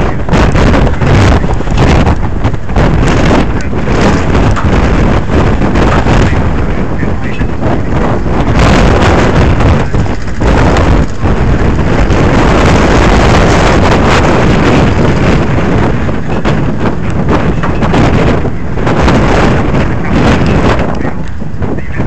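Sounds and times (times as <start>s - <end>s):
wind buffeting the microphone: 0.0s - 22.0s.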